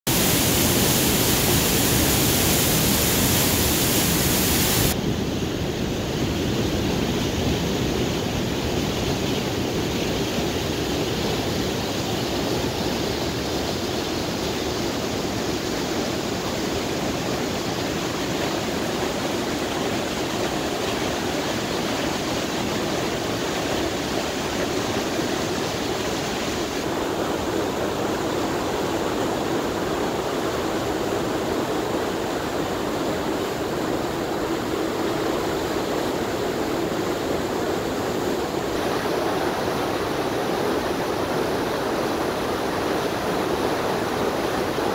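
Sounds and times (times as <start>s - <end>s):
river rushing through gorge: 0.1s - 44.9s.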